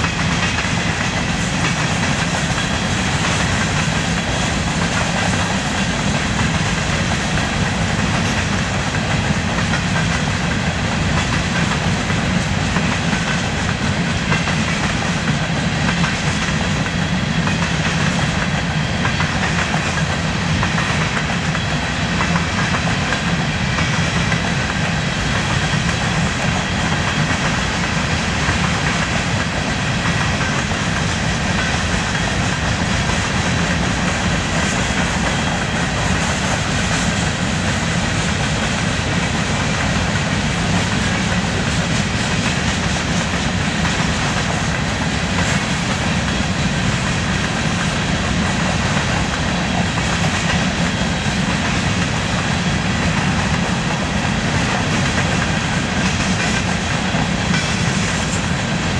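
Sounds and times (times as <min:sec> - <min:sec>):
steel wheels on rails: 0:00.0 - 0:58.9.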